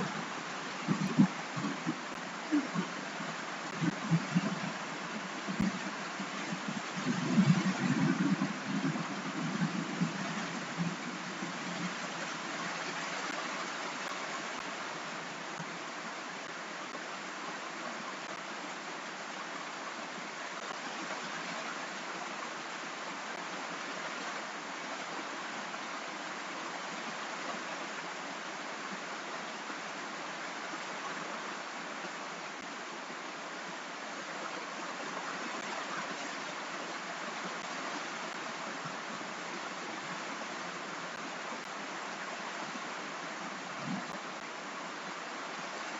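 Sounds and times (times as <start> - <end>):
steady rain hiss: 0.0 - 45.9.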